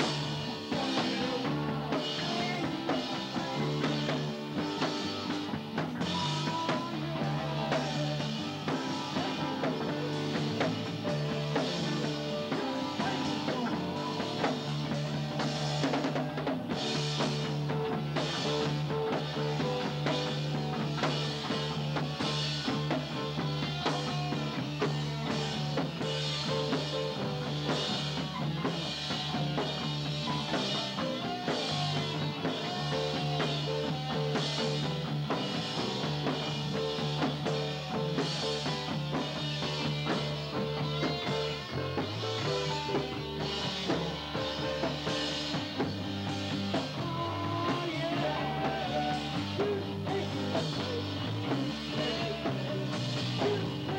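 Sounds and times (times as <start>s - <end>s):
bass guitar low notes: 0.0s - 53.9s
drum kit with cymbals: 0.0s - 53.9s
electric guitar: 0.0s - 53.9s.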